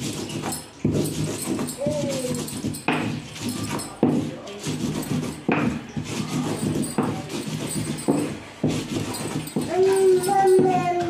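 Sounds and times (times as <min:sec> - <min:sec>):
hand grinder scraping on board: 0:00.0 - 0:11.0.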